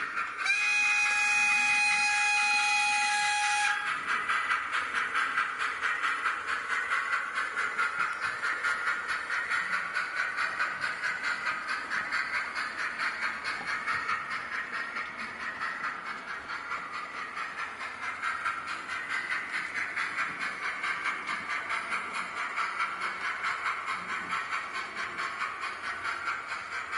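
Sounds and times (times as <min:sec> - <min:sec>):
synthesized steam locomotive chuffing: 0:00.0 - 0:26.9.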